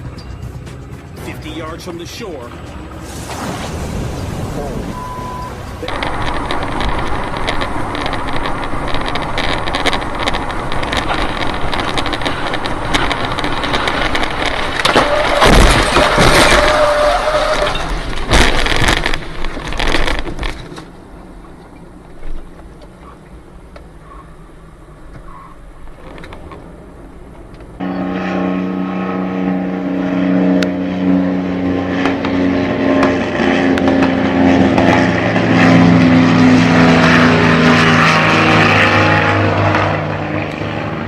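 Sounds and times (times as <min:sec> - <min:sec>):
light aircraft engine sputtering: 0:00.0 - 0:16.6, 0:17.6 - 0:41.0.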